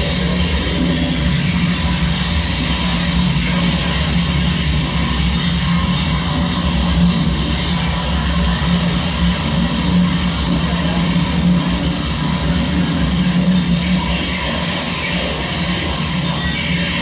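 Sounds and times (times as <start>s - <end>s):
electronic noise music: 0.0s - 17.0s.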